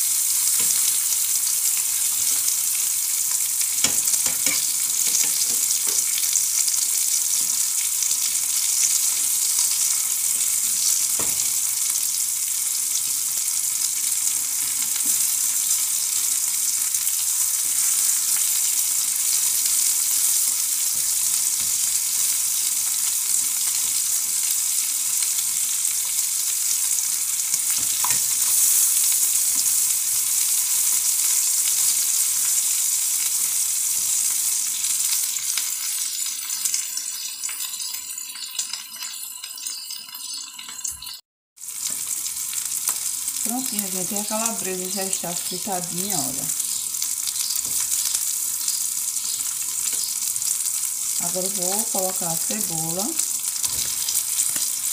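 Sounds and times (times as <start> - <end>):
sausage sizzling in oil: 0.0 - 54.9.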